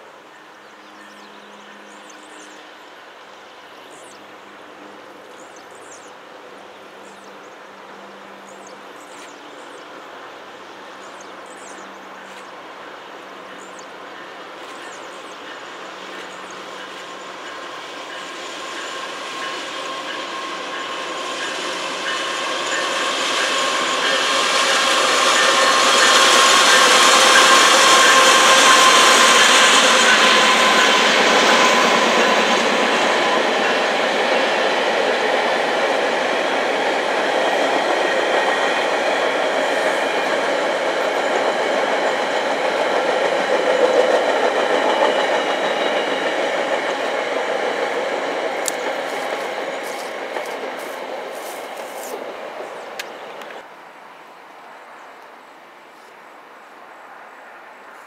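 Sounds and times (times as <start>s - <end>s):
high tones from train wheels: 0.0s - 53.7s
passenger train rumbling past: 0.0s - 55.8s.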